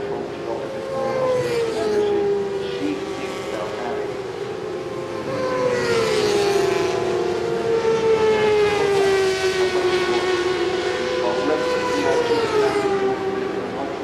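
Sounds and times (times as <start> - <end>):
racing motorcycles at high revs: 0.0 - 14.0.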